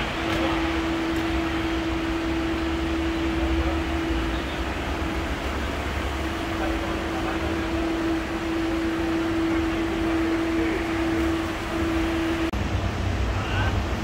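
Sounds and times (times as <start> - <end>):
mechanical hum with whine: 0.0 - 14.0.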